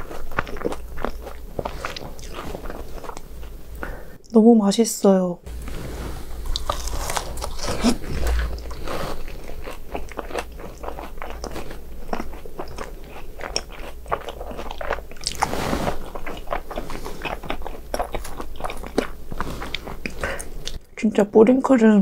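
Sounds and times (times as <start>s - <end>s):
crunching and chewing snacks: 0.0s - 3.6s, 6.4s - 20.8s.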